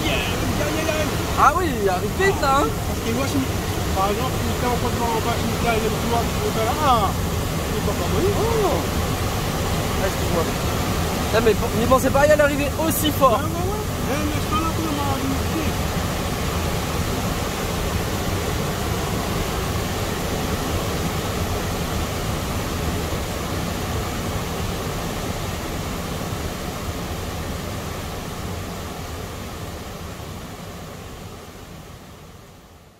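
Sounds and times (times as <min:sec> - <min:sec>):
flood water rushing: 0:00.0 - 0:31.9.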